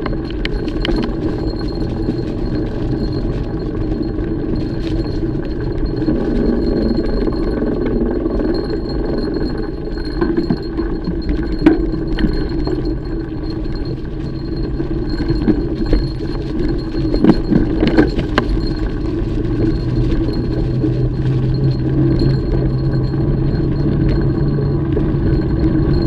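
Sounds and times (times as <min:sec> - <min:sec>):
bike chain clinking and rattling: 0:00.0 - 0:26.0
bike tyres rolling on trail: 0:00.0 - 0:26.0.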